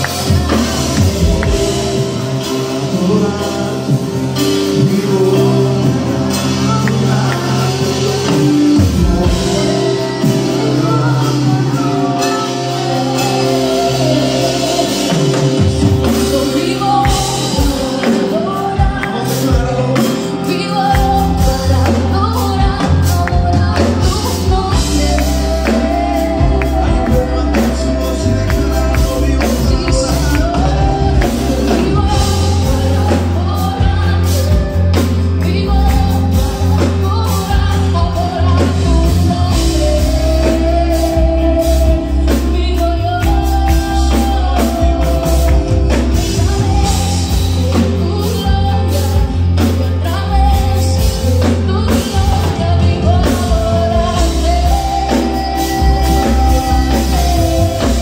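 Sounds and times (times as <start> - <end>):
drums: 0.0 - 58.0
electric guitar: 0.0 - 58.0
gospel band playing: 0.0 - 58.0
woman singing: 0.0 - 58.0.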